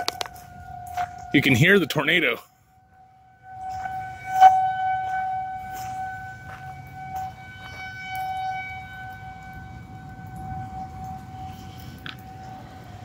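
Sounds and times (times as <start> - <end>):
tornado warning siren: 0.0 - 13.0.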